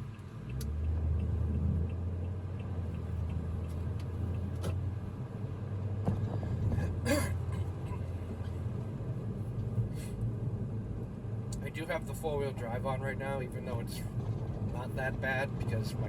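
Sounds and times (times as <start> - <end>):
vehicle driving heard from inside: 0.0 - 16.0.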